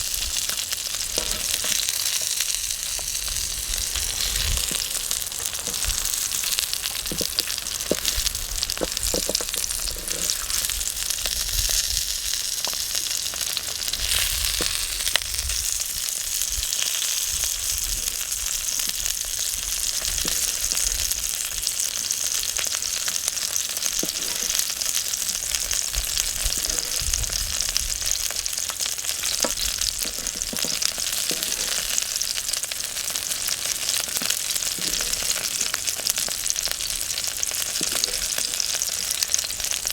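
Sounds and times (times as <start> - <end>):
food sizzling in a pan: 0.0 - 39.9
wood fire pops and crackles: 0.0 - 39.9.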